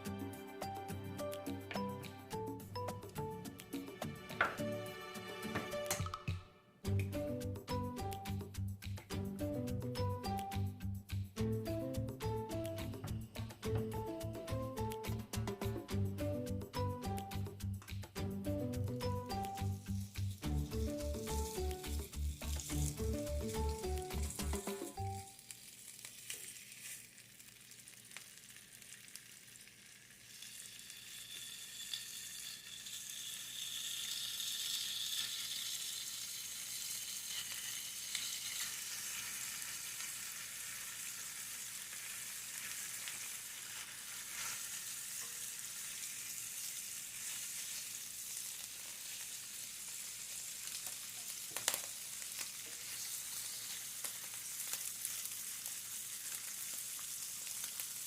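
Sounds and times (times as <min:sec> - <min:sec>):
food sizzling in a pan: 0:00.0 - 0:06.1, 0:06.8 - 0:58.0.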